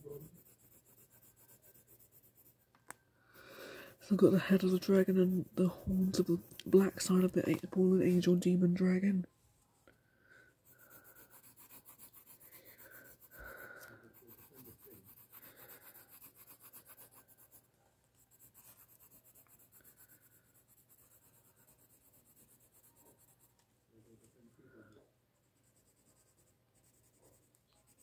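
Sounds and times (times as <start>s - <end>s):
pencil scratching on paper: 0.0s - 2.7s, 3.8s - 9.0s, 10.6s - 23.6s, 25.4s - 28.0s.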